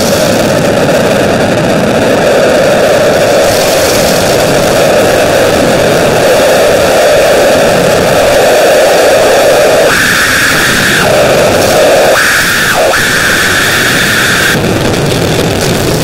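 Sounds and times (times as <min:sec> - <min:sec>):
loud static hiss shifting pitch: 0:00.0 - 0:16.0.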